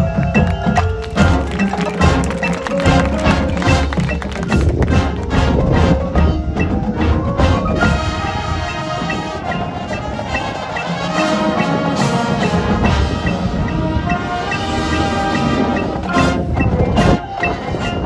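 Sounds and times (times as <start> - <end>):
marching band playing: 0.0 - 18.0
marimbas and vibraphones: 0.0 - 18.0.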